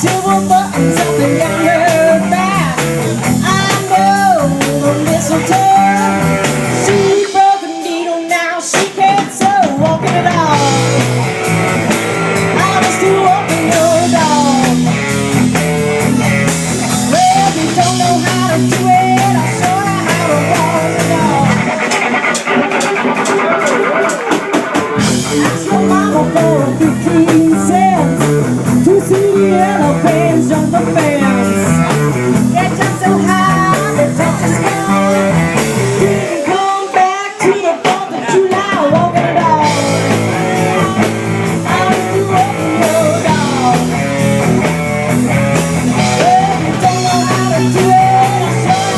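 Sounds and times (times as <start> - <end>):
rock song with singer and band: 0.0 - 48.9.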